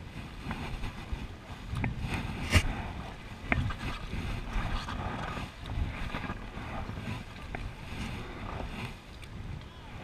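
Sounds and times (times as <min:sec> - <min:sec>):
paddles splashing in river water: 0:00.0 - 0:10.0.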